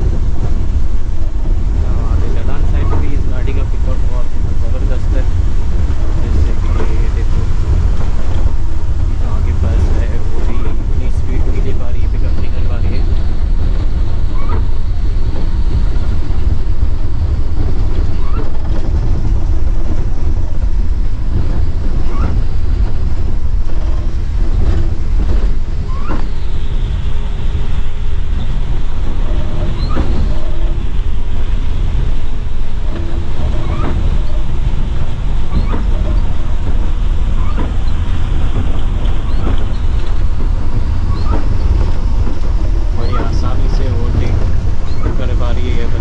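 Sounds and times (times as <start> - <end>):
coach engine rumble: 0.0 - 46.0
wind noise on microphone: 0.0 - 46.0.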